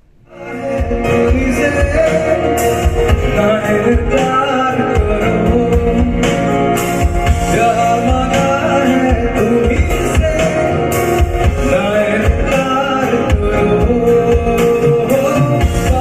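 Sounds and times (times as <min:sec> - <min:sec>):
person singing: 0:00.0 - 0:16.0
steady drum beat: 0:00.7 - 0:16.0.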